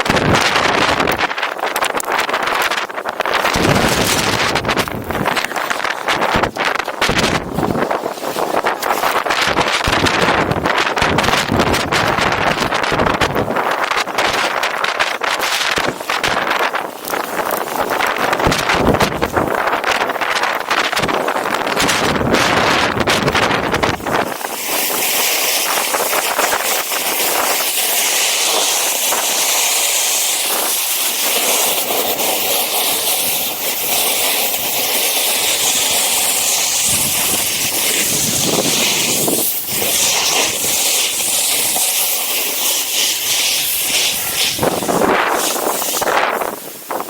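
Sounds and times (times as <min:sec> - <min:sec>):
wind buffeting microphone: 0:00.0 - 0:47.0
snowboard scraping over snow: 0:03.4 - 0:47.0.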